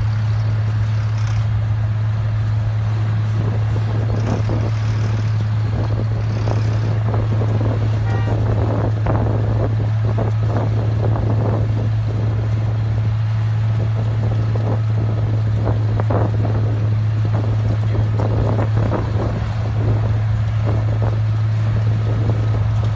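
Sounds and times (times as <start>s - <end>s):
diesel engine low hum: 0.0s - 22.9s
rattling and grinding: 0.0s - 22.9s.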